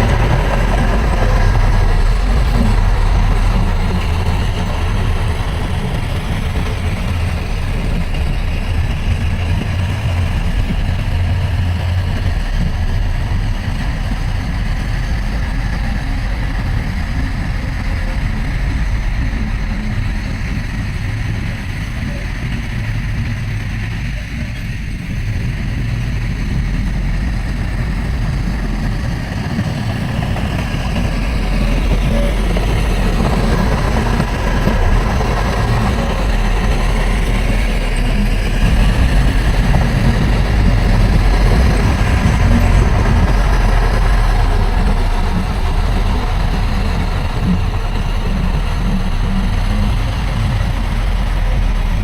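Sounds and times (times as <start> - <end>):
heavy diesel engine running: 0.0 - 52.0.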